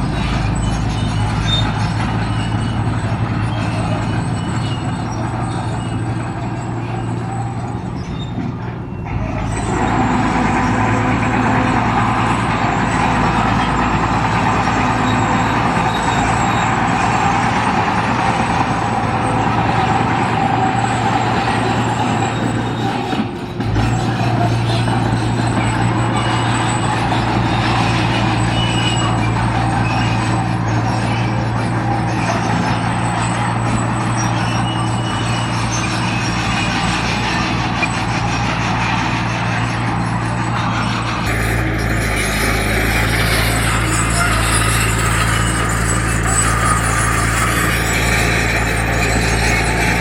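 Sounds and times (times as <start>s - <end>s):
heavy machinery engines droning: 0.0s - 50.0s.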